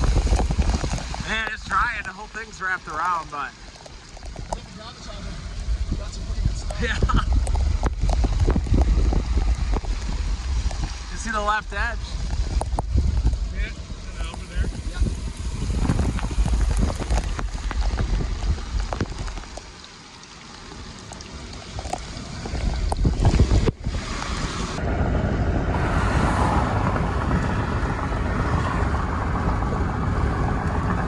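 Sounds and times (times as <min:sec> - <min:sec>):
wind buffeting microphone: 0:00.0 - 0:02.1, 0:03.8 - 0:19.7, 0:21.4 - 0:31.0
steady rushing noise: 0:00.0 - 0:19.8, 0:20.7 - 0:31.0
moving vehicle rumble: 0:00.0 - 0:31.0.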